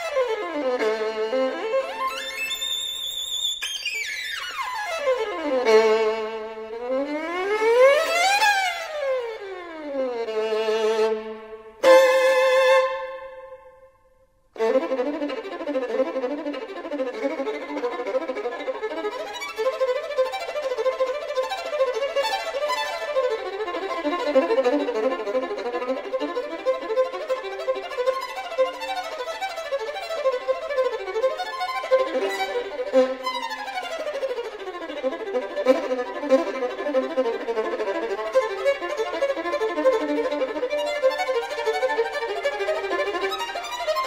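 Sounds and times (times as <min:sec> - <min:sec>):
violin playing fast runs: 0:00.0 - 0:13.6, 0:14.6 - 0:44.0.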